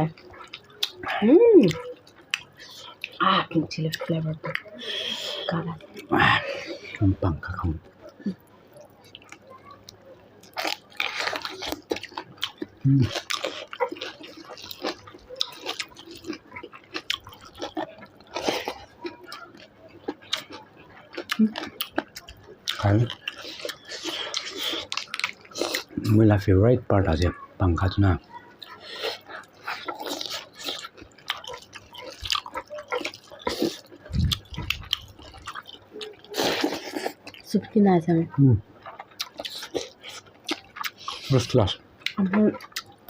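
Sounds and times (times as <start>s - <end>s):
chewing with wet mouth smacks: 0.1s - 3.2s, 3.8s - 7.0s, 7.9s - 26.2s, 28.3s - 37.5s, 38.8s - 43.0s.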